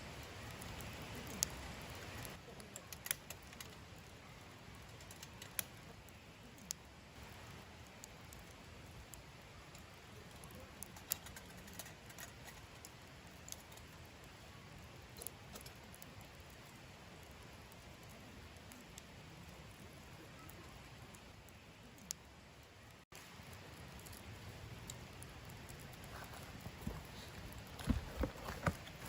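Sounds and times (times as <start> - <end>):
low fire hiss: 0.0 - 29.0
wood fire crackling and popping: 0.0 - 29.0.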